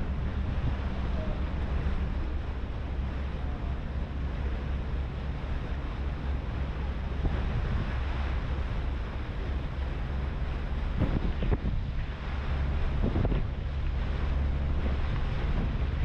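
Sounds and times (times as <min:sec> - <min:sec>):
ferry engine low drone: 0:00.0 - 0:16.0
water rushing past hull: 0:00.0 - 0:16.0
wind buffeting microphone: 0:00.0 - 0:16.0.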